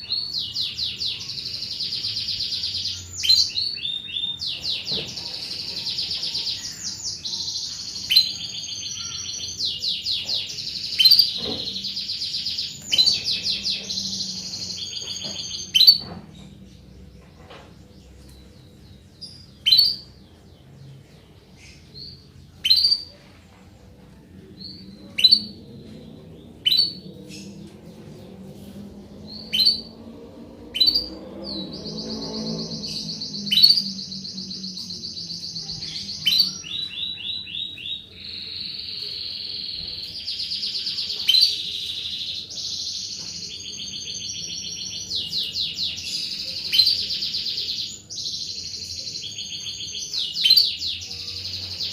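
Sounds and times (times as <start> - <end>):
canary chirping and trilling: 0.0 - 51.9.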